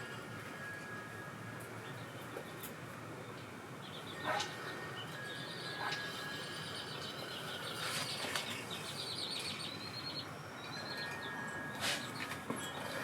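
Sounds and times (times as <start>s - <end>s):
small birds chirping trills: 1.6s - 13.0s.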